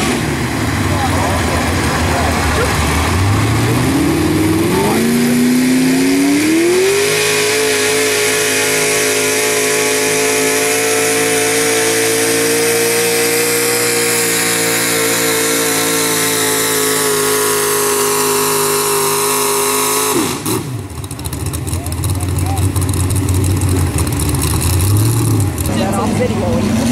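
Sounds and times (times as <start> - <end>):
truck engine at full throttle: 0.0 - 26.9.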